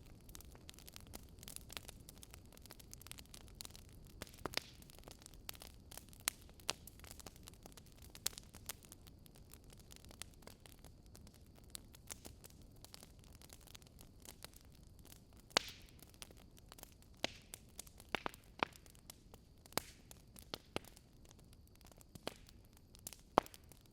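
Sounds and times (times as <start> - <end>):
low rumble of flames: 0.0 - 23.9
wood fire crackling and popping: 0.0 - 23.9.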